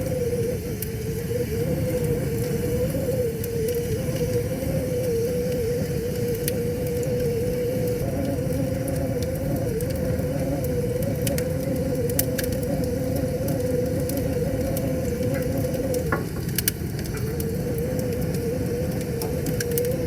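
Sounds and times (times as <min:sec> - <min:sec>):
wavering hum: 0:00.0 - 0:20.0
wood fire crackling and popping: 0:00.0 - 0:20.0.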